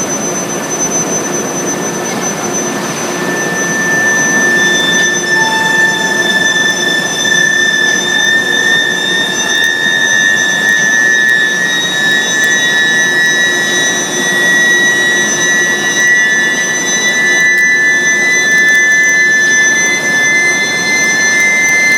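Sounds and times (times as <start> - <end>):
induction furnace whine: 0.0 - 21.9.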